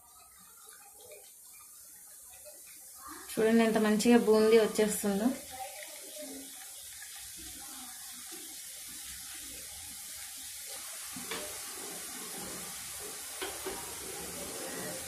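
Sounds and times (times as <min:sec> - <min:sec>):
batter sizzling in hot oil: 0:00.0 - 0:15.0.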